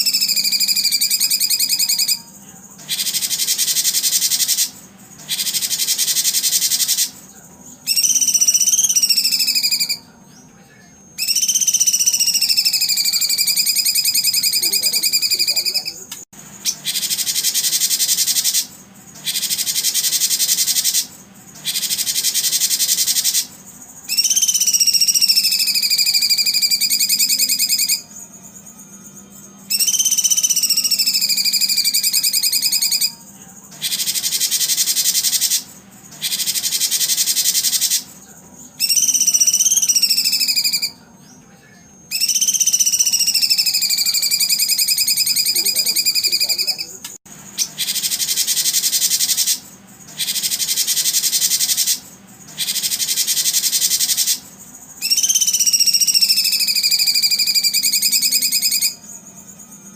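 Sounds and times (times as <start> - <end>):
insect buzzing: 0.0 - 7.3, 11.2 - 38.2, 42.0 - 59.9
whistled bird calls: 0.0 - 10.5, 11.1 - 16.0, 16.6 - 28.2, 29.6 - 33.2, 33.8 - 41.4, 42.1 - 47.0, 47.6 - 59.0.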